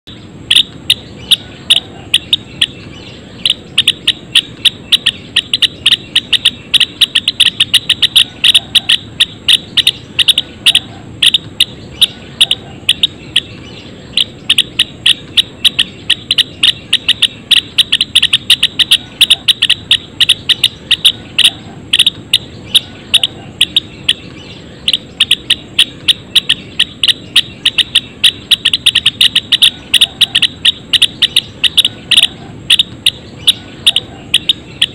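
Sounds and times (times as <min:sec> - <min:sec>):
sparrows chirping: 0:00.1 - 0:34.9
steady low hum: 0:00.1 - 0:34.9.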